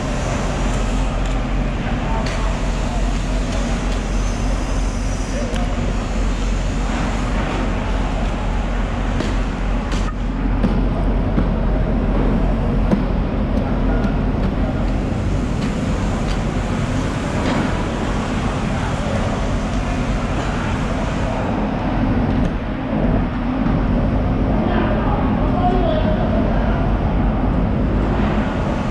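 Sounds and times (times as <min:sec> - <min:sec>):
low machine rumble: 0:00.0 - 0:28.9.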